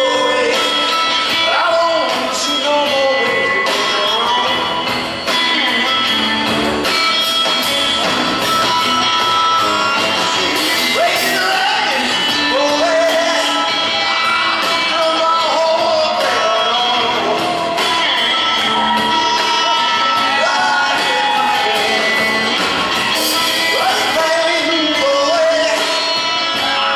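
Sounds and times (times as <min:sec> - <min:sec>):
live band playing: 0:00.0 - 0:26.9
sliding lead guitar line: 0:00.0 - 0:26.9.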